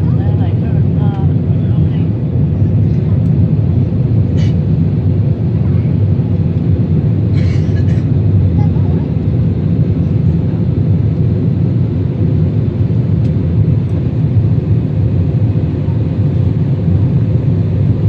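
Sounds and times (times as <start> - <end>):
jet engines roaring in cabin: 0.0 - 18.0.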